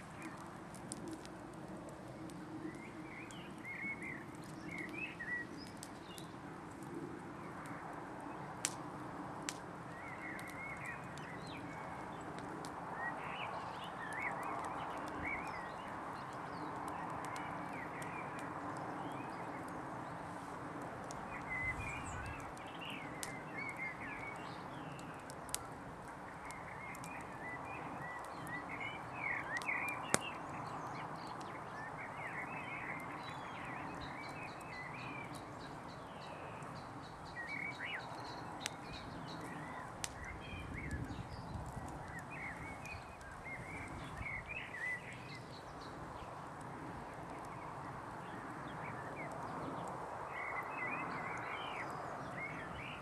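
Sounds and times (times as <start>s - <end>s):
brush fire crackling: 0.0s - 53.0s
small birds chirping: 2.0s - 8.8s, 9.4s - 53.0s.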